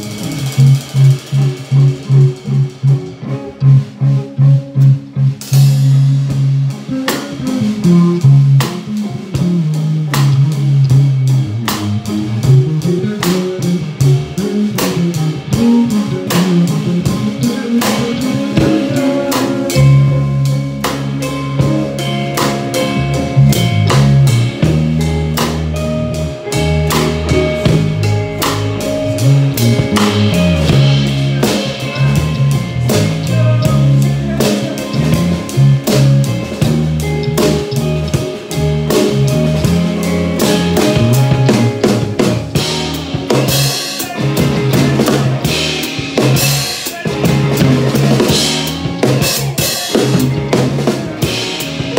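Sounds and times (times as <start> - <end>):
drum and cymbal beat: 0.0 - 51.9
low electric guitar riffs: 0.0 - 51.9.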